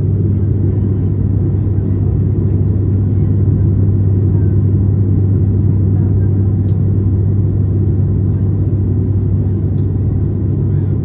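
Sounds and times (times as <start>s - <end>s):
turboprop cabin drone: 0.0s - 11.0s.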